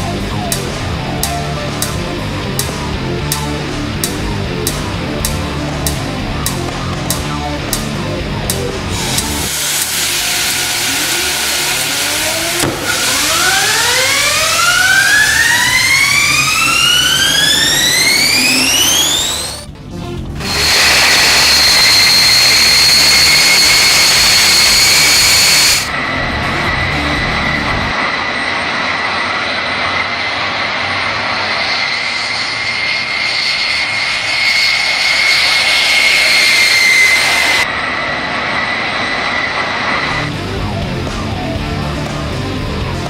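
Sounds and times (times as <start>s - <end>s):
jet engine roaring and whining: 0.0s - 43.0s.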